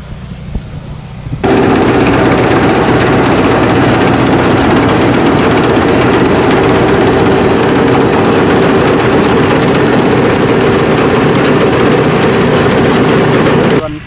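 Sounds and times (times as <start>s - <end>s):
combine harvester engine droning: 1.0s - 14.0s.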